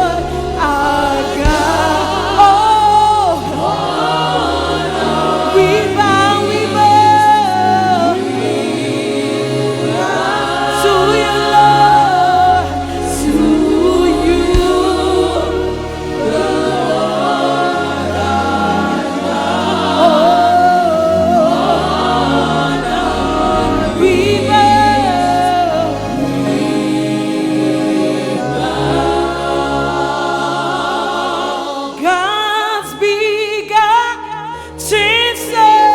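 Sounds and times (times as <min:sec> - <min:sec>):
keyboard and bass chords: 0:00.0 - 0:32.1
choir and lead singer singing: 0:00.0 - 0:35.9.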